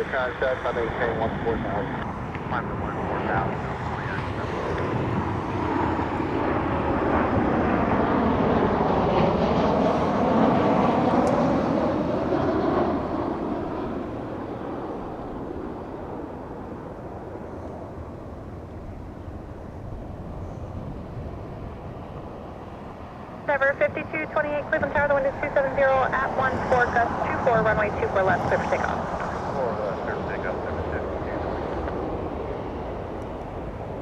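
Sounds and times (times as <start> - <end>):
jet airliner passing by: 0.0 - 34.0.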